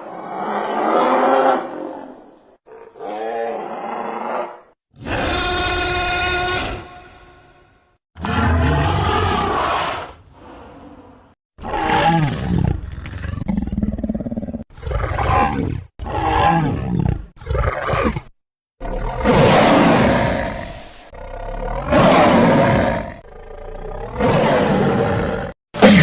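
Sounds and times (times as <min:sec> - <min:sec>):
dinosaur roars and growls: 0:00.0 - 0:06.9, 0:08.2 - 0:26.0.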